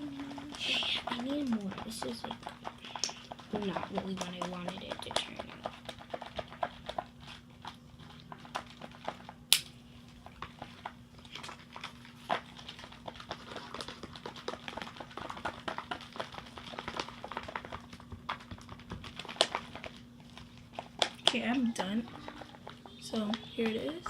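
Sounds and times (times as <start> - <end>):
slime clicking and squelching: 0.0 - 24.0.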